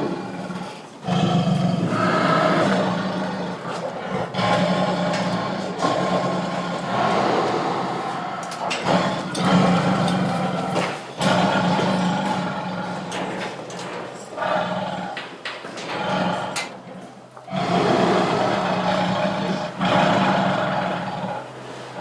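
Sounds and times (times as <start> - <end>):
tiger roaring: 0.0 - 22.0.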